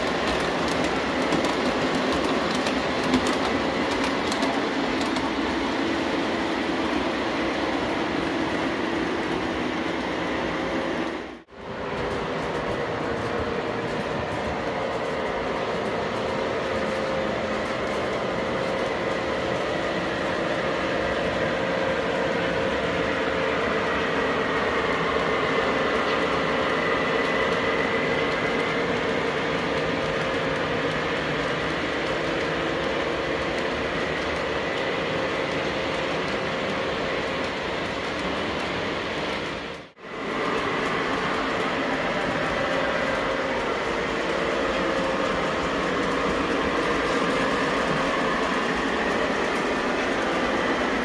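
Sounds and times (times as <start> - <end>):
model train rolling hum: 0.0 - 51.0.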